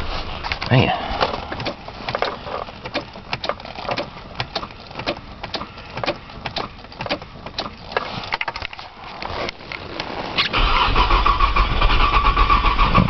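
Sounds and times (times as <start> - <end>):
car engine cranking: 0.0 - 13.0.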